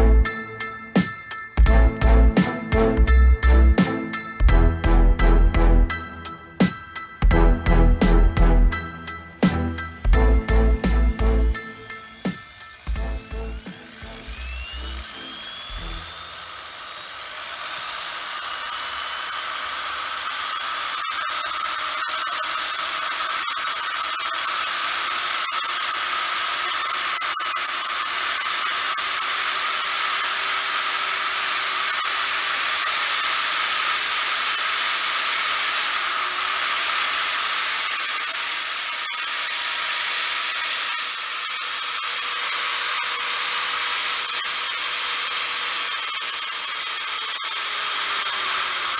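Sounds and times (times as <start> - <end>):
power tool motor whining: 0.0 - 48.9.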